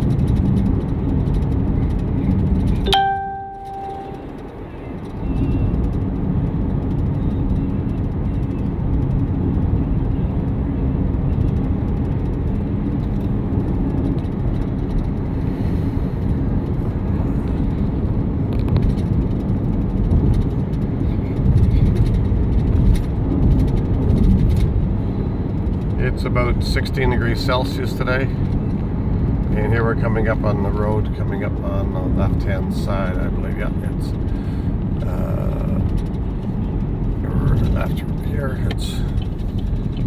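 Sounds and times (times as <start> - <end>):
car road rumble inside cabin: 0.0 - 40.0
faint engine hum: 0.0 - 40.0.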